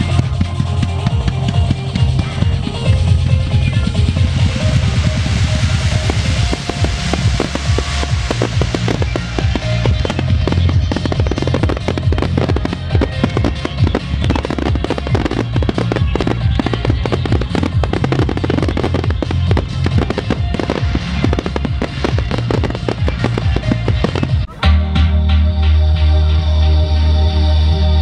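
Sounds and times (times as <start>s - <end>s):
fireworks bursting and crackling: 0.0s - 24.6s
music playing: 0.0s - 28.0s.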